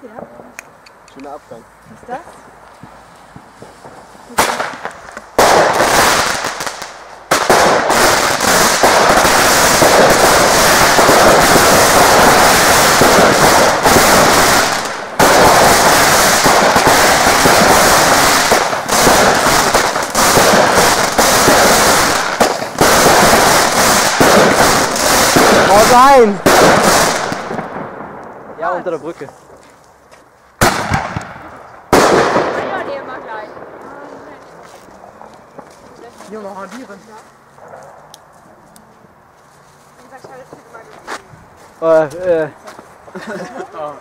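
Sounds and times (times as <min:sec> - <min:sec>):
fireworks bangs and crackles: 0:02.4 - 0:29.7, 0:30.6 - 0:37.9, 0:40.0 - 0:42.4.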